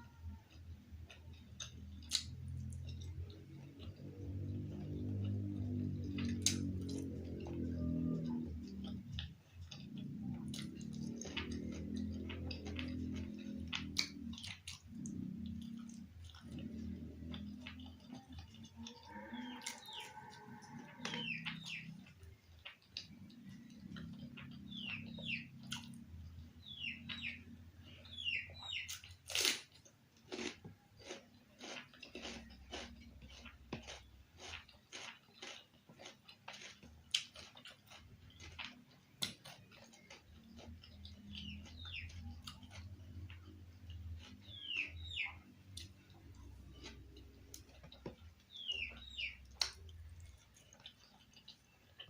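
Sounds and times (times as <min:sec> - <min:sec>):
wet chewing and mouth smacks: 0:00.4 - 0:26.2, 0:28.6 - 0:52.0.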